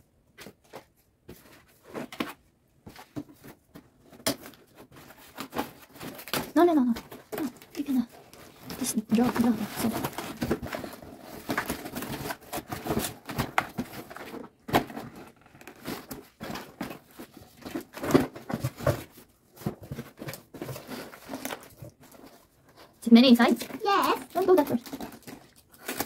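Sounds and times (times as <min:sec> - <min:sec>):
cardboard crinkling and tearing: 0:03.0 - 0:26.0.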